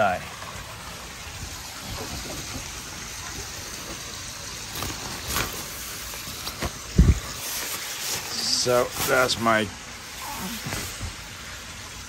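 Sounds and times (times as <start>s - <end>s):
pond water trickling: 0.0s - 12.0s.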